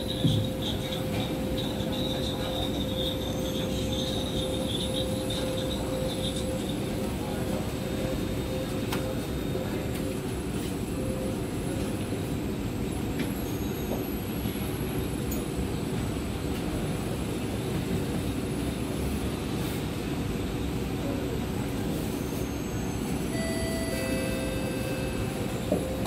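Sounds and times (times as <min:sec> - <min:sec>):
train equipment hum and rush: 0:00.0 - 0:26.0.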